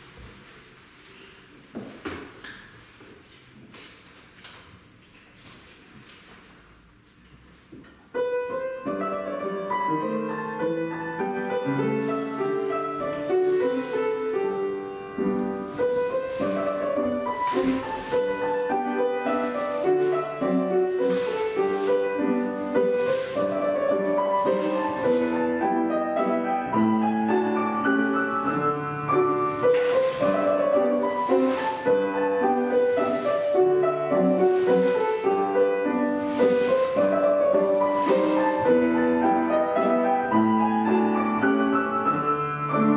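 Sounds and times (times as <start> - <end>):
piano ballet accompaniment: 7.7 - 42.9.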